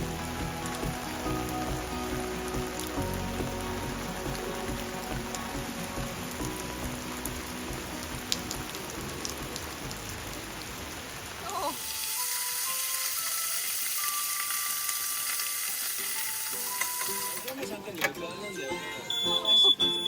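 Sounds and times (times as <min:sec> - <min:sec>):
food sizzling in hot pan: 0:00.0 - 0:17.5
rain pattering: 0:00.0 - 0:18.1.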